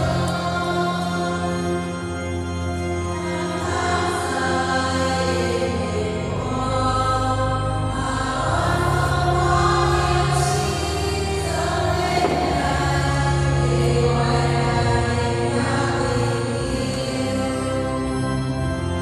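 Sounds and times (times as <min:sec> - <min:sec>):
choir singing a hymn: 0:00.0 - 0:19.0
steady accompaniment: 0:00.0 - 0:19.0.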